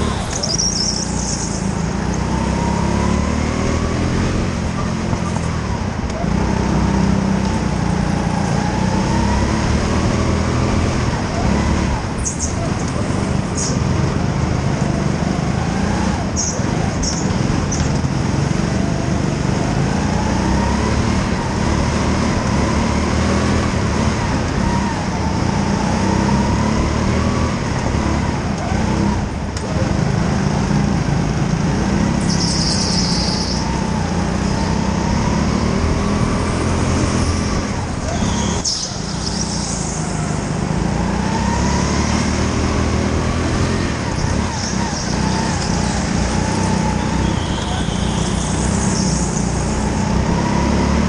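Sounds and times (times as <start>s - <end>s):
tire squeaks: 0.0s - 30.1s, 31.4s - 51.0s
go-kart engine rumbling: 0.0s - 51.0s.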